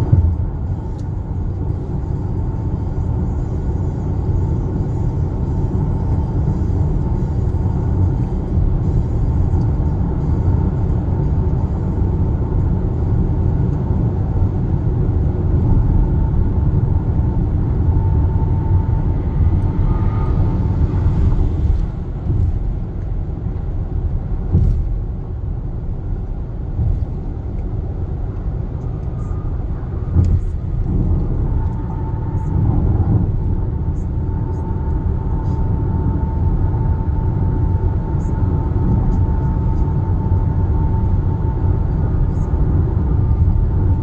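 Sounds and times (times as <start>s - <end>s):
road and tyre rumble in car: 0.0s - 44.0s.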